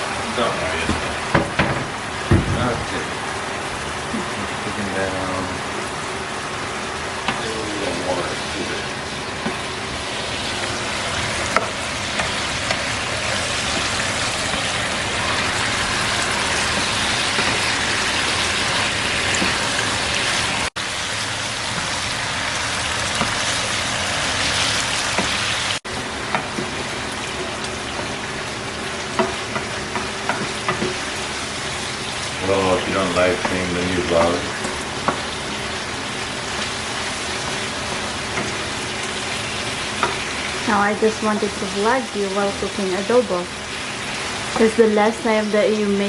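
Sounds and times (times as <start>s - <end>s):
food sizzling in a pan: 0.0s - 46.0s.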